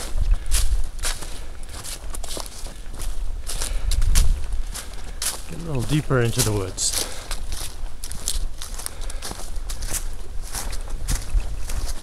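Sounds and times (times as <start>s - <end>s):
footsteps crunching dry leaves: 0.0s - 12.0s.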